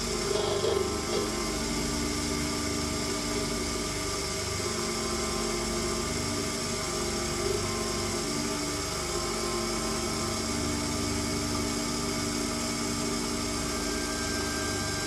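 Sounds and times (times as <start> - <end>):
mini lathe whirring: 0.0 - 15.0.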